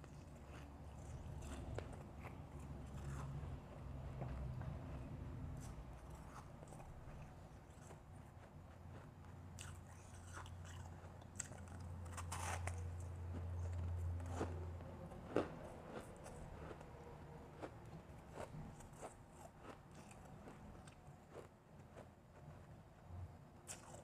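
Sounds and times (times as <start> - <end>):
chewing and crunching ice: 0.0 - 22.6, 23.6 - 24.0
steady low hum: 0.0 - 24.0.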